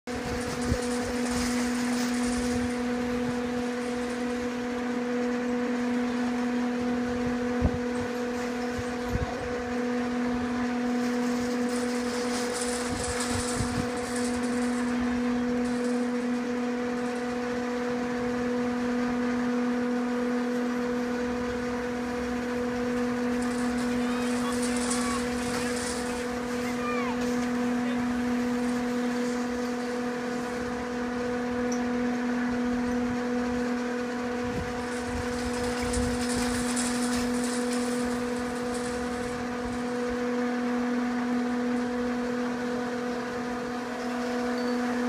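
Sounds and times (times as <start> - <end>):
chairlift machinery humming: 0.1 - 45.0.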